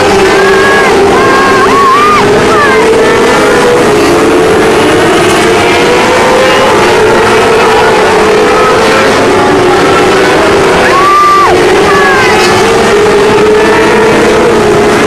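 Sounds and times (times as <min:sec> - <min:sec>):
racing car engines droning: 0:00.0 - 0:15.0.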